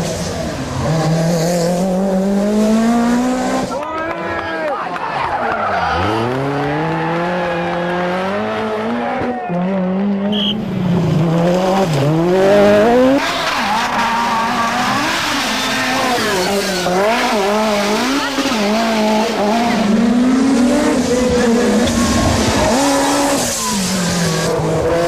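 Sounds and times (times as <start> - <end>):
rally car engine revving: 0.0 - 4.2, 5.2 - 25.0.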